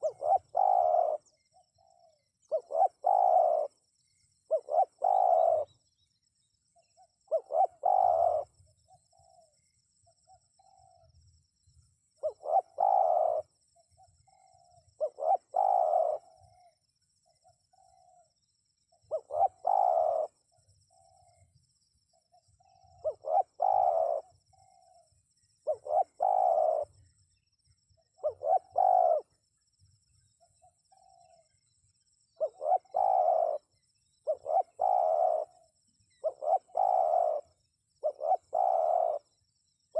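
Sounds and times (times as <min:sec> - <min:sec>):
dove cooing: 0:00.0 - 0:06.0, 0:06.7 - 0:11.3, 0:12.1 - 0:21.6, 0:22.3 - 0:27.3, 0:28.0 - 0:29.4, 0:30.4 - 0:39.4.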